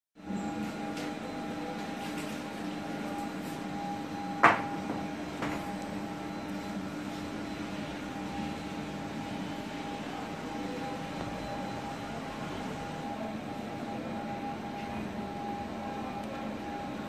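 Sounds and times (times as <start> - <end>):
milling machine humming: 0.2 - 17.0.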